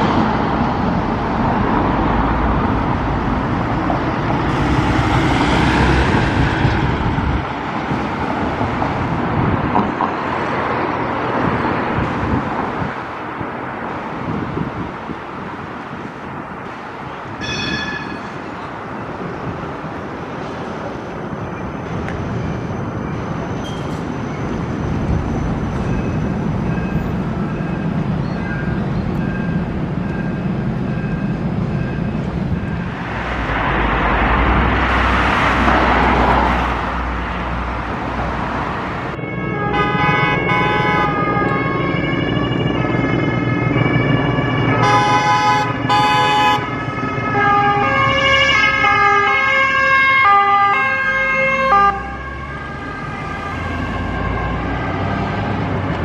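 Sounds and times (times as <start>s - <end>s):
emergency vehicle sirens: 0.0s - 56.0s
passing traffic rush: 0.0s - 56.0s.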